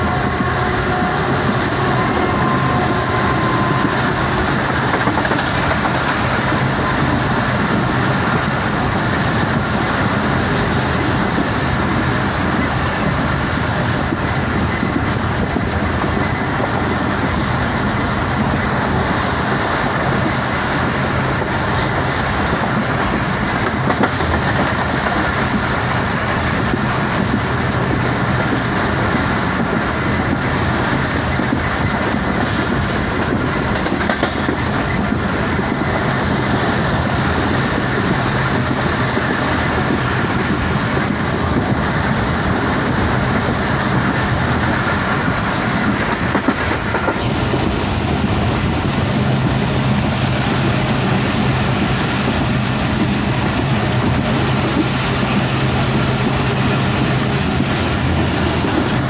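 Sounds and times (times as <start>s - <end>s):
train wheels running on track: 0.0s - 59.0s.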